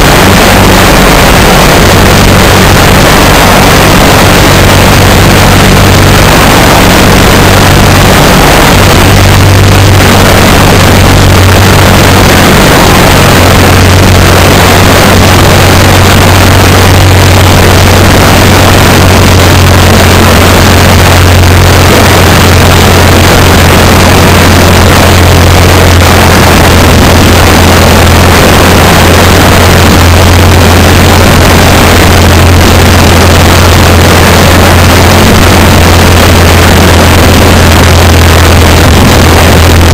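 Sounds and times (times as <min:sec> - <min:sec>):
ultralight aircraft engine drone: 0:00.0 - 0:39.9
wind rushing on microphone: 0:00.0 - 0:39.9.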